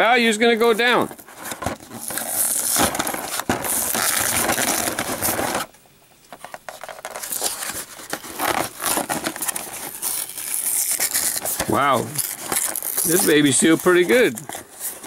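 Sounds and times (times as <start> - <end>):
cardboard tearing: 0.0 - 5.7, 6.4 - 15.0
plastic blister pack crinkling: 0.0 - 15.0.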